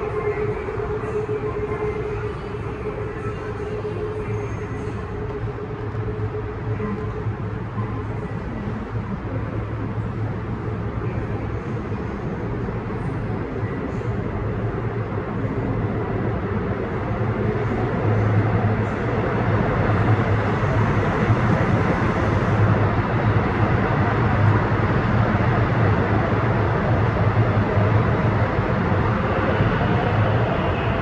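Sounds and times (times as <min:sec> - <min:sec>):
train rumbling through station: 0:00.0 - 0:31.0.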